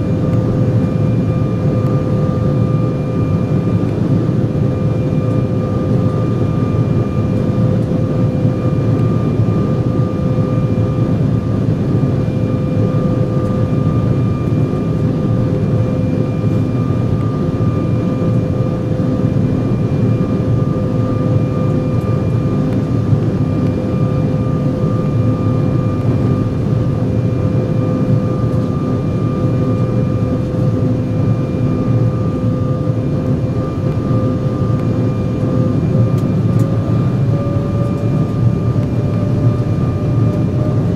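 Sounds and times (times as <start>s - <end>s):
airliner cabin drone: 0.0s - 40.9s.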